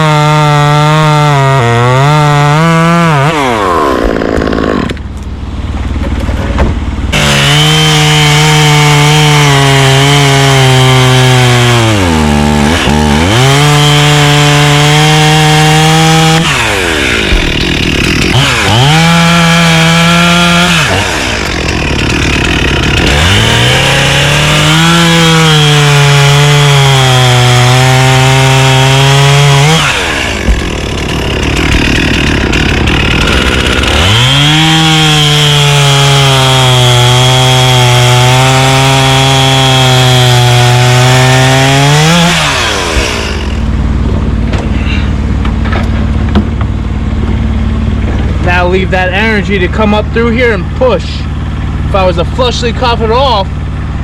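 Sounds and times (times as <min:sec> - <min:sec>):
chainsaw sawing through wood: 0:00.0 - 0:54.0.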